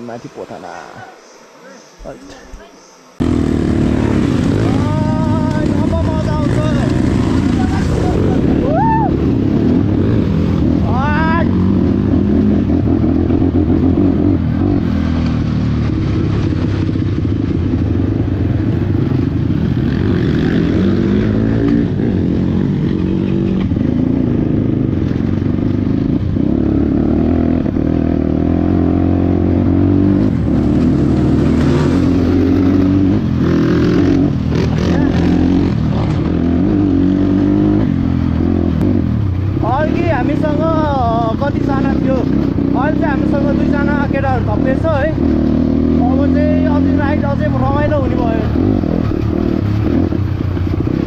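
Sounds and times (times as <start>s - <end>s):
motorcycle engine running: 3.2s - 51.0s.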